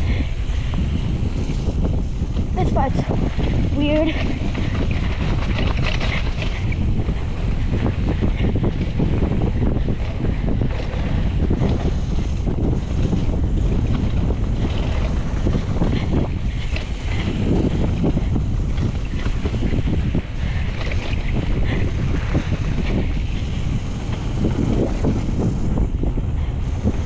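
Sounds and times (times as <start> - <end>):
bike chattering and rattling: 0.0 - 27.0
tyres rumbling on packed dirt: 0.0 - 27.0
wind buffeting microphone: 0.0 - 27.0.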